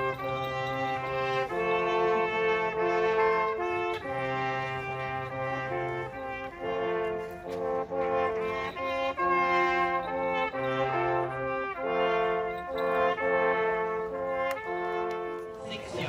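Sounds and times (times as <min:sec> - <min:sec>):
brass hunting music chords: 0:00.0 - 0:16.0.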